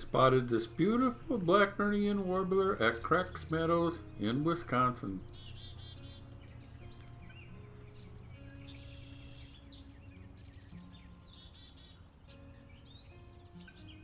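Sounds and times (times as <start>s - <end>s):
soft background music: 0.0s - 14.0s
songbirds chirping and trilling: 0.0s - 14.0s.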